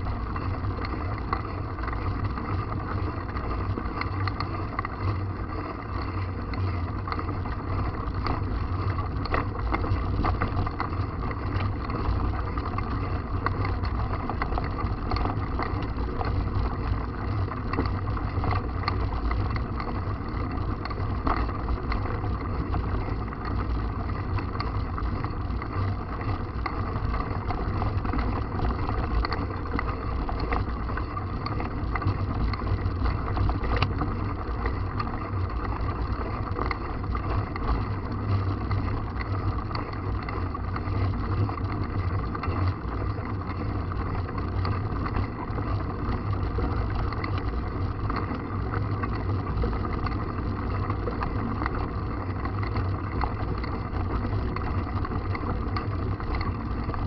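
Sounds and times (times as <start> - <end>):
bike rattles and clicks: 0.0 - 57.0.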